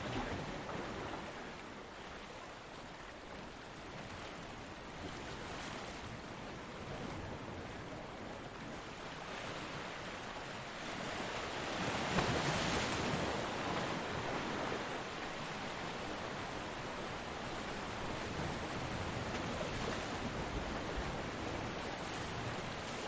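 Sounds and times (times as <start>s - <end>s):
ocean waves breaking: 3.8s - 23.0s.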